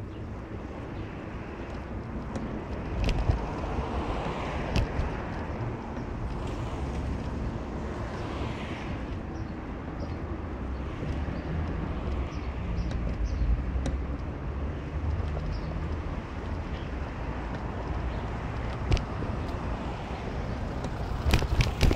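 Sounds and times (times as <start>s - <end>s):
car engine and road rumble: 0.0s - 21.9s
faint clicks and knocks: 0.9s - 7.6s, 9.0s - 21.9s.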